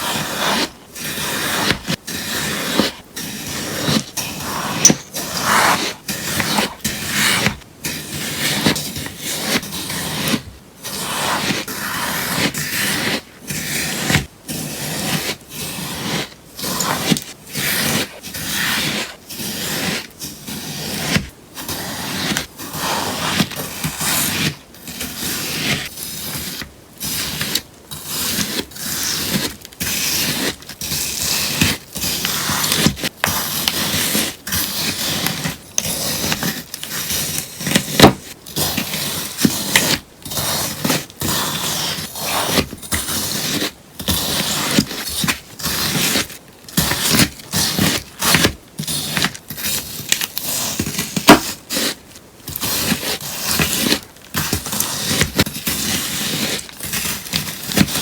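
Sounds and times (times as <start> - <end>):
scissors cutting sponge: 0.0 - 58.0.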